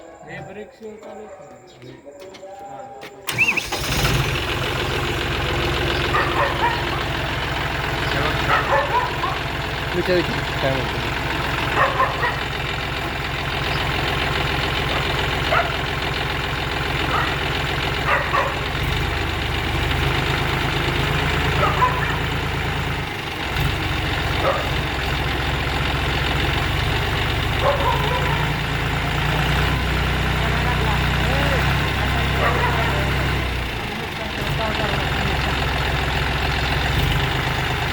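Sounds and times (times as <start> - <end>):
tractor engine idling: 2.1 - 37.9.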